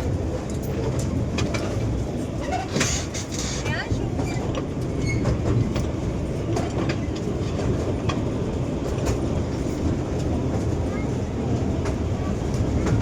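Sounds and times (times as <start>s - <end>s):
miniature train rumbling: 0.0s - 13.0s
wheels clacking on rails: 0.0s - 13.0s.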